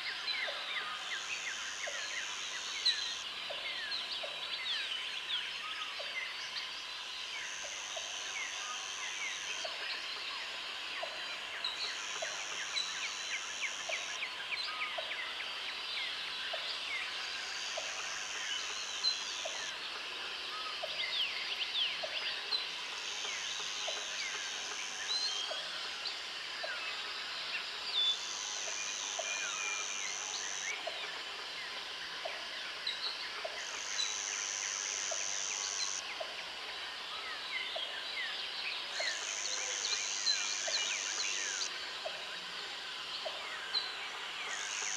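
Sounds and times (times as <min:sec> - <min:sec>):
insect high buzz: 0:00.0 - 0:44.9.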